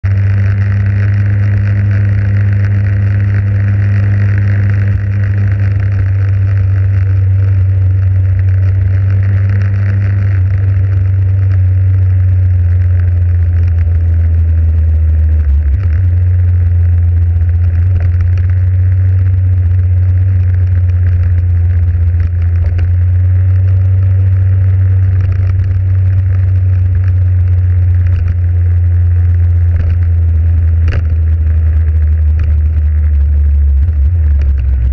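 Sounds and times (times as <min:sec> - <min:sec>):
motorcycle engine running: 0:00.0 - 0:34.9
tyre noise on road: 0:00.0 - 0:34.9.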